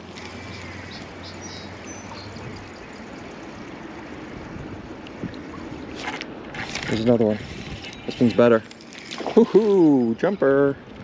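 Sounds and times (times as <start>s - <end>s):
choppy water around kayak: 0.0s - 11.0s.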